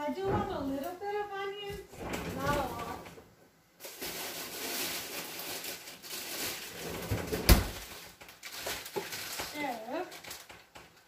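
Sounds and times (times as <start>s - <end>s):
rustling kitchen items: 0.0s - 11.0s.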